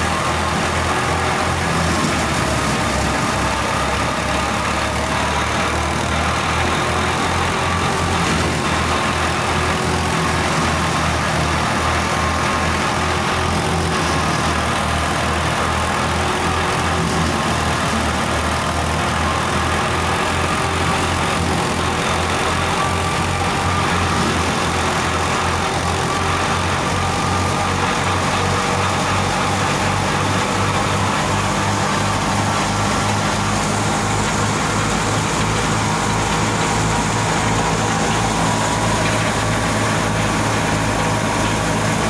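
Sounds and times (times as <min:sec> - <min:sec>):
thresher and tractor drone: 0:00.0 - 0:42.0.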